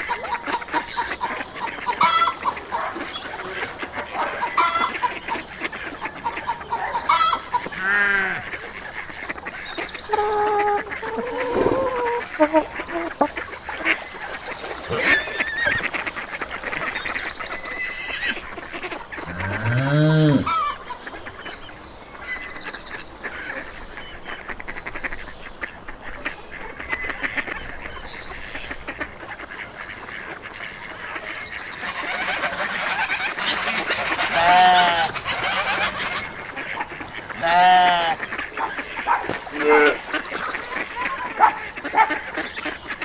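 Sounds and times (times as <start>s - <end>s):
geese honking: 0.0s - 43.0s
poultry calling: 0.0s - 43.0s.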